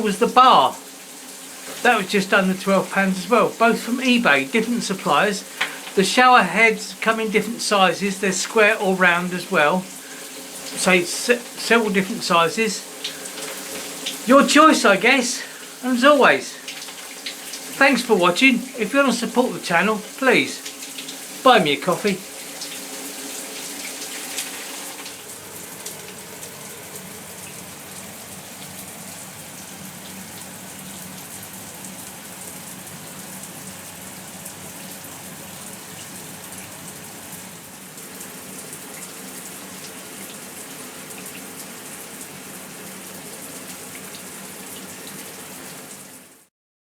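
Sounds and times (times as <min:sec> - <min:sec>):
shower water spraying: 0:00.0 - 0:46.4.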